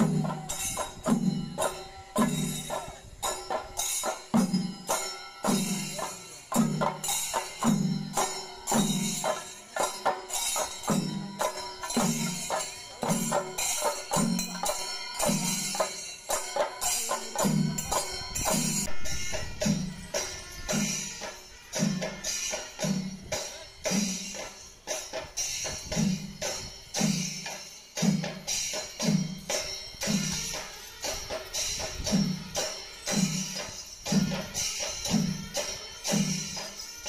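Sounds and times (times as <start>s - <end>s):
high jingling: 0.0s - 37.0s
rapid sharp percussion strokes: 0.0s - 37.0s.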